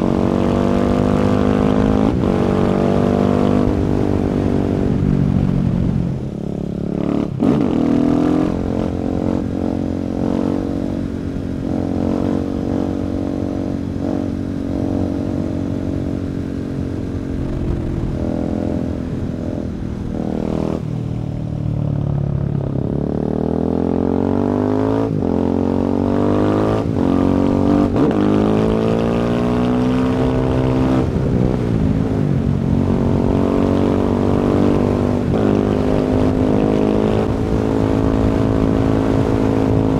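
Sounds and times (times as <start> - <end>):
motorcycle engine revving: 0.0 - 21.1, 22.1 - 39.9.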